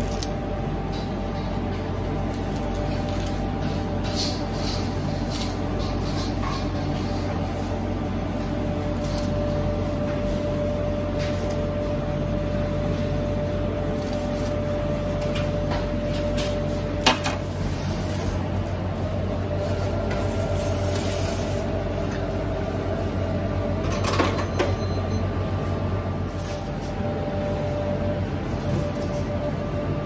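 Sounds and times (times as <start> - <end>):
bakery equipment humming: 0.0 - 30.0.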